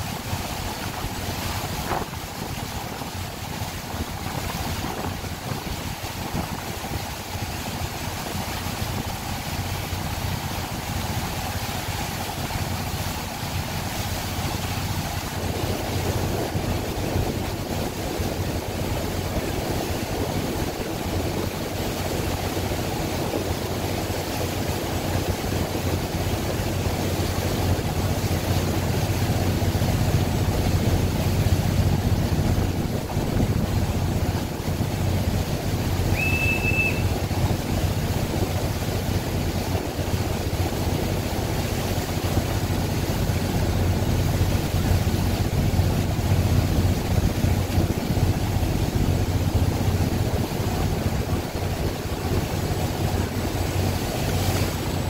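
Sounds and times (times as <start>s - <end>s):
boat engine rumble: 0.0s - 55.0s
rushing water: 0.0s - 55.0s.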